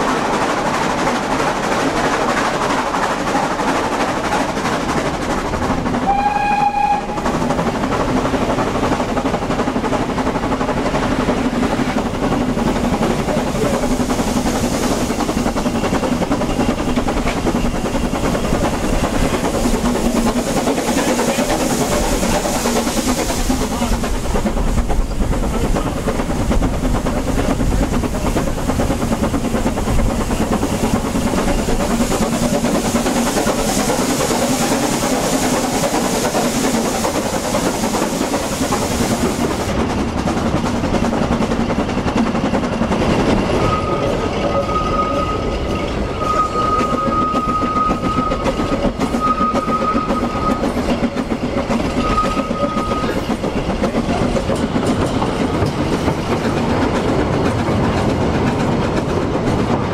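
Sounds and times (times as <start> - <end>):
train carriages running on track: 0.0 - 59.9.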